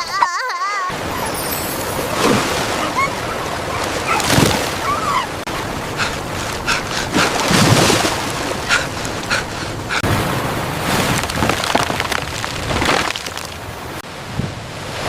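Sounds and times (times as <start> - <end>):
rushing water: 0.9 - 15.0.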